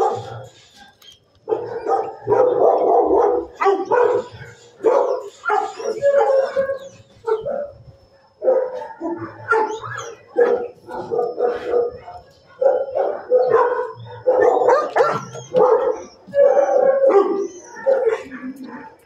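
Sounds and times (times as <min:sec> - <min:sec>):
dogs barking and howling: 0:00.0 - 0:19.0.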